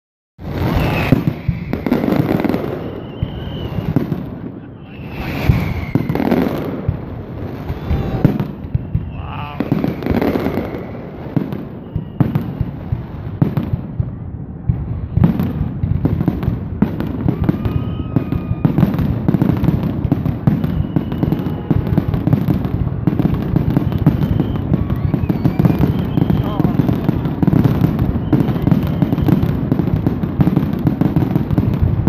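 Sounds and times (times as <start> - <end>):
firework crackling: 0.4 - 32.0
fireworks bursting with bangs: 0.4 - 32.0.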